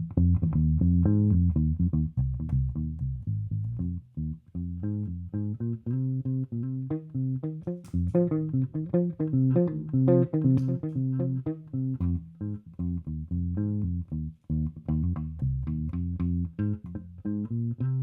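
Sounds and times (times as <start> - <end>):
electric bass riff: 0.0 - 18.0.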